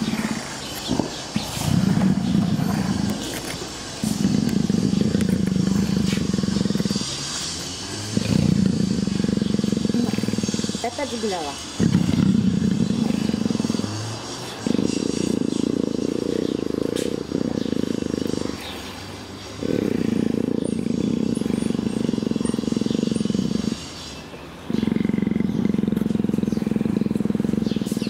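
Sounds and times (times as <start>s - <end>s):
leopard purring loudly: 0.0s - 28.0s.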